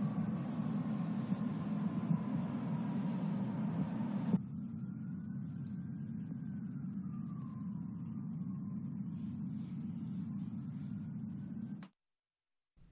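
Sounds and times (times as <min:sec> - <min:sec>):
city rumble: 0:00.0 - 0:11.8
distant siren wailing: 0:00.0 - 0:11.8.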